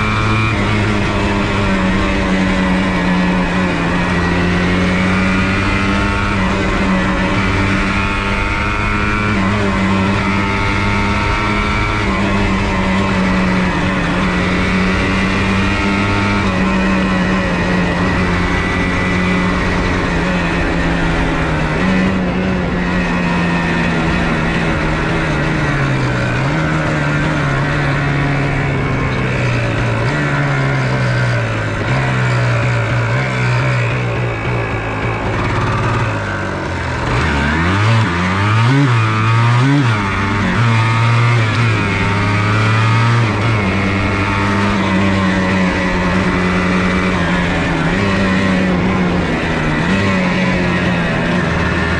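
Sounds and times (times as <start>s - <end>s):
two-stroke engine running: 0.0s - 51.9s.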